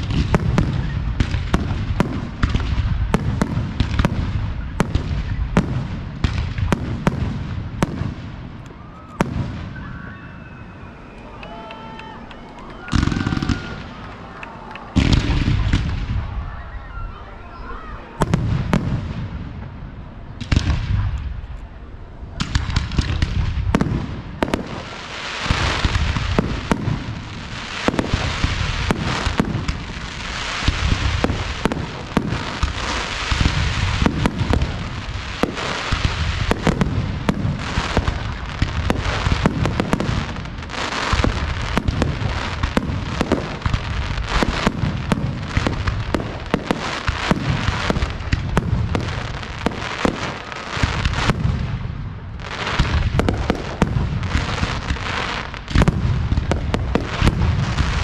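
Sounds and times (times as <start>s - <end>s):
fireworks bangs: 0.0s - 58.0s
fireworks crackling: 0.0s - 58.0s.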